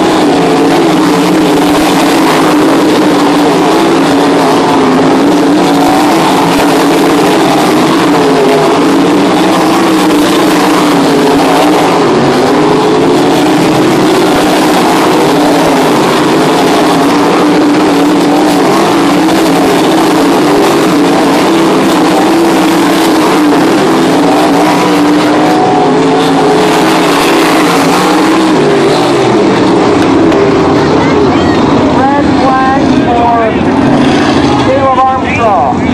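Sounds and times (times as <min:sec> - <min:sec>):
race car engines roaring: 0:00.0 - 0:35.9.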